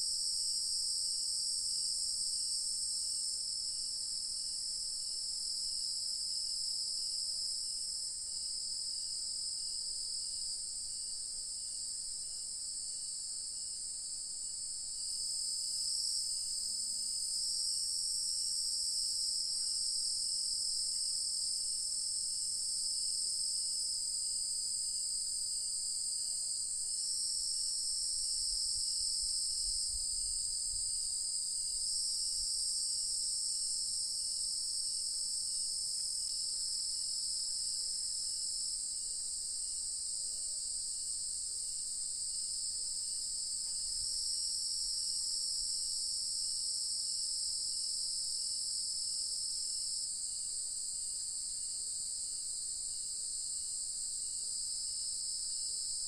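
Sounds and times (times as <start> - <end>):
crickets and cicadas droning: 0.0 - 56.0.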